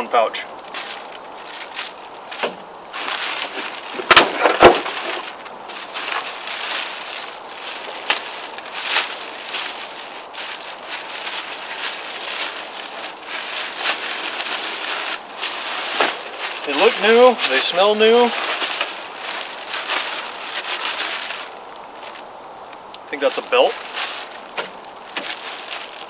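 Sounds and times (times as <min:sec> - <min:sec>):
plastic bag crinkling: 0:00.4 - 0:26.0.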